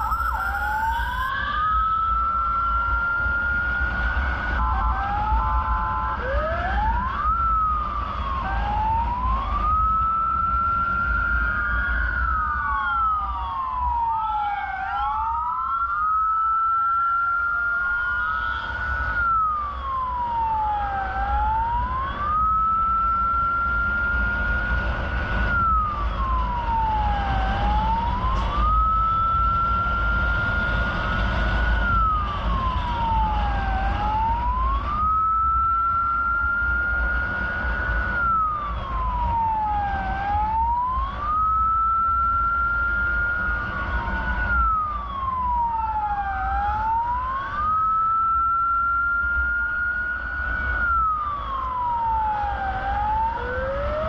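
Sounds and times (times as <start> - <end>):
low vehicle rumble: 0.0 - 54.0
second siren sweeping: 0.0 - 54.0
siren wailing: 0.0 - 54.0.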